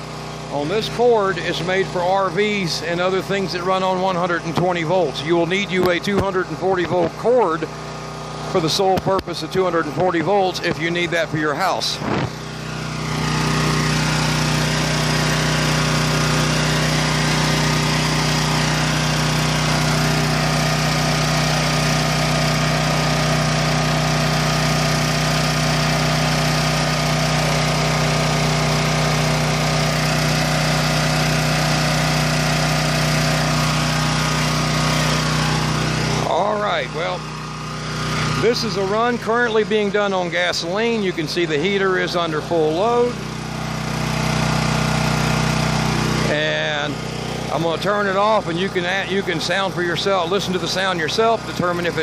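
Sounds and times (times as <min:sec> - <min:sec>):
generator engine running: 0:00.0 - 0:52.0.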